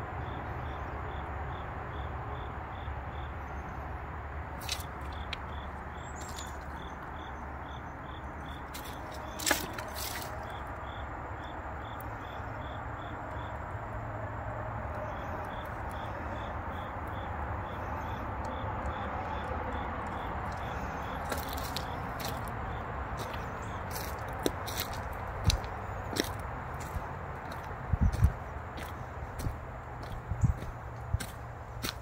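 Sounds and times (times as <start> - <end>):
cricket chirping: 0.1 - 32.0.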